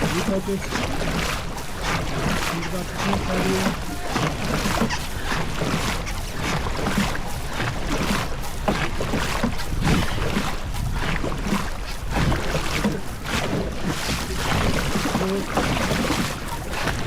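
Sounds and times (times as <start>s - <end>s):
water rushing around boat: 0.0s - 17.0s.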